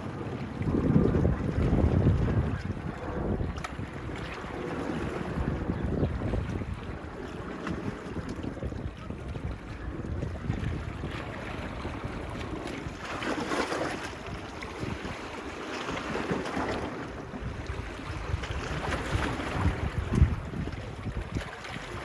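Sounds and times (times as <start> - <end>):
small waves washing onto beach: 0.0 - 22.0
wind buffeting microphone: 0.0 - 22.0.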